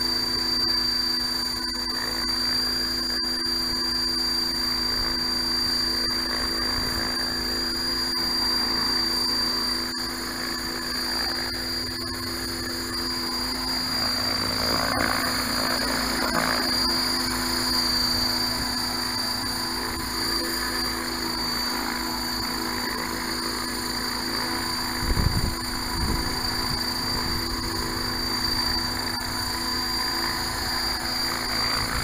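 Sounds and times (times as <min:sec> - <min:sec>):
rc helicopter high whine: 0:00.0 - 0:32.0
rotor hum: 0:00.0 - 0:32.0.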